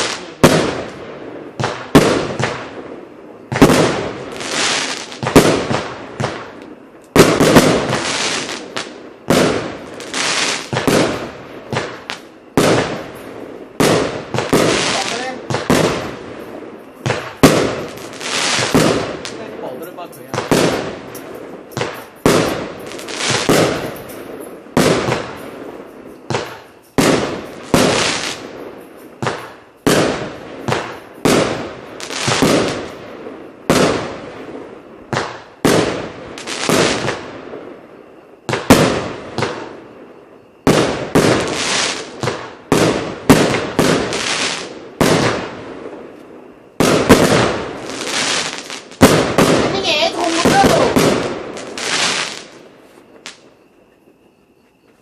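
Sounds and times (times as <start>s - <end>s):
firework cake firing shots: 0.0s - 2.9s, 3.5s - 13.1s, 13.8s - 16.2s, 16.9s - 25.4s, 26.3s - 28.6s, 29.2s - 33.0s, 33.6s - 34.3s, 35.1s - 37.4s, 38.5s - 39.8s, 40.7s - 45.6s, 46.8s - 52.6s.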